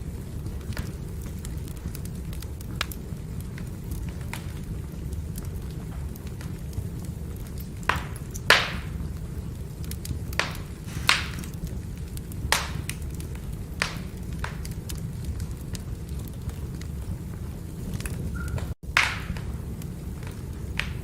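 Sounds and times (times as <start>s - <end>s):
fire crackling and popping: 0.0s - 21.0s
firewood burning rumble: 0.0s - 21.0s.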